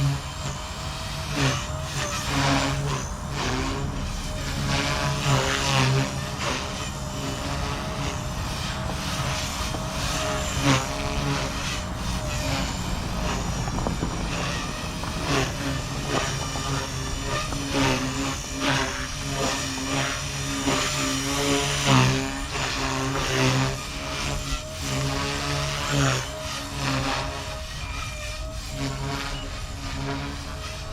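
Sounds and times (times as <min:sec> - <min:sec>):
low rumbling noise: 0:00.0 - 0:30.9
rc helicopter motor whine: 0:00.0 - 0:30.9.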